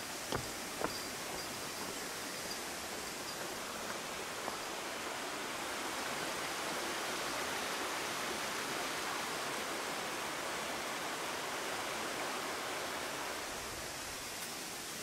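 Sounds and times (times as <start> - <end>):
waterfall rushing water: 0.0 - 15.0.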